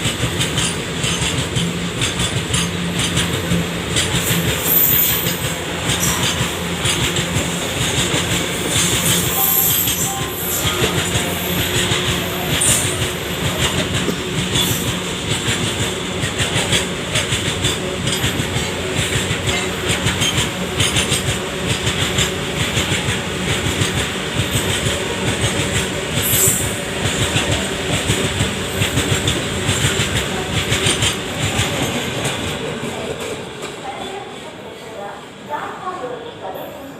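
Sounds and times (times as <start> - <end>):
train wheels clattering over rail joints: 0.0 - 9.3, 10.6 - 33.3
train rumble: 0.0 - 36.7.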